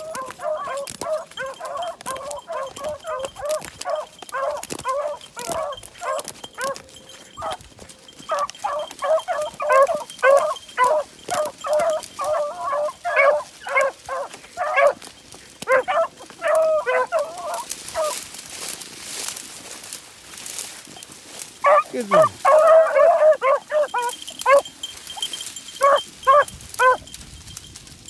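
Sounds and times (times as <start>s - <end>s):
hounds baying: 0.0s - 18.4s, 20.6s - 27.2s.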